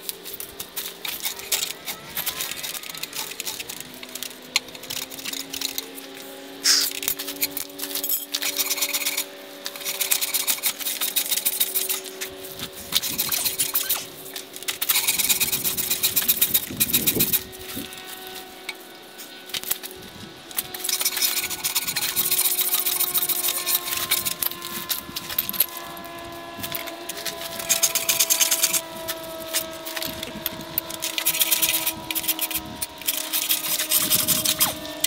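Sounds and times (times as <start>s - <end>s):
hand tool rasping: 0.0s - 35.0s.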